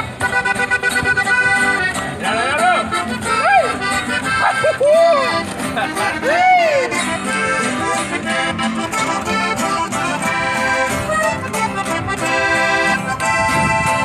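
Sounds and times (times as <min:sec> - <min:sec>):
accordion playing chords: 0:00.0 - 0:14.0
guitar strumming: 0:00.0 - 0:14.0.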